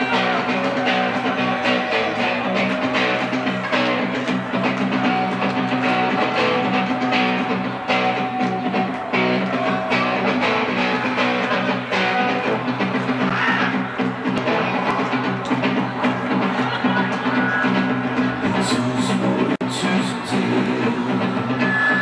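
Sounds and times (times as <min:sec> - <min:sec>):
electric guitars holding chords: 0:00.0 - 0:22.0.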